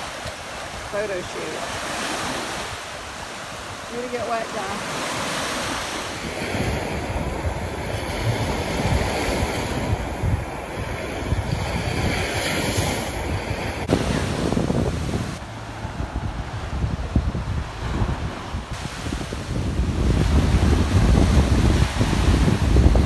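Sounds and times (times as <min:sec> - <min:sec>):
small waves breaking on shore: 0:00.0 - 0:23.0
wind buffeting microphone: 0:00.0 - 0:23.0.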